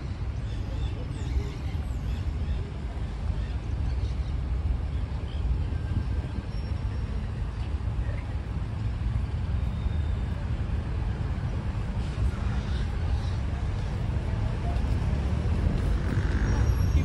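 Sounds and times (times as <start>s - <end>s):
faint voices of passers-by: 0.0s - 17.0s
road traffic rumble: 0.0s - 17.0s.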